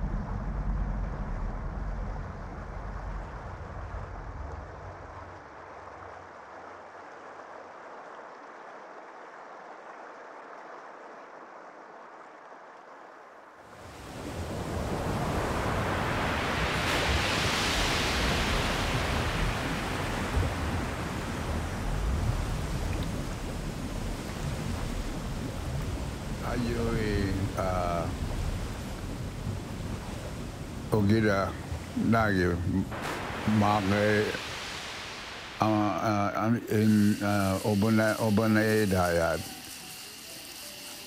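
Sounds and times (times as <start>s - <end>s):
rushing water: 0.0s - 41.0s.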